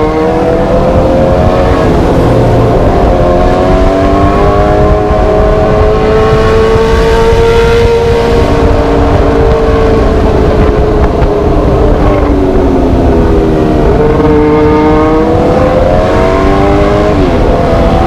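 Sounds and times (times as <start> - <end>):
motorcycle engine at high revs: 0.0 - 18.0
wind rumble on microphone: 0.0 - 18.0.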